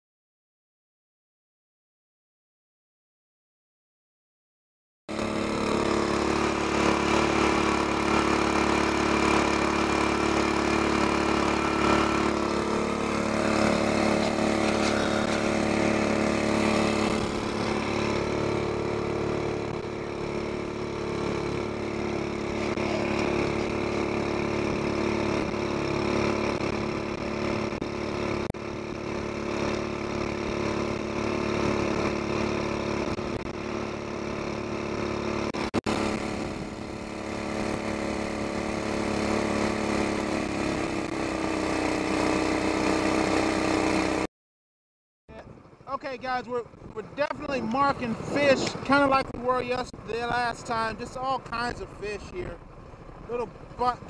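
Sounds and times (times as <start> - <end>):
small outboard motor running: 5.1 - 44.3, 45.3 - 54.0.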